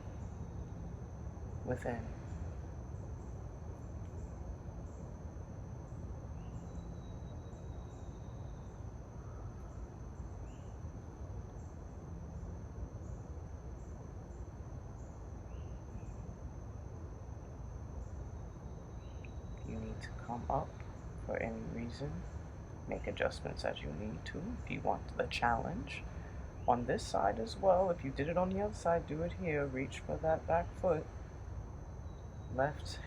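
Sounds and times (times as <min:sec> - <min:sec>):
crickets trilling: 0:00.0 - 0:33.0
low background rumble: 0:00.0 - 0:33.0.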